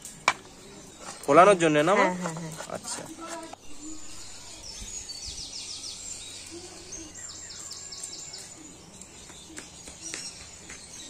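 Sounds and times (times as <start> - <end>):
outdoor background noise: 0.0 - 11.0
songbirds chirping: 0.0 - 11.0.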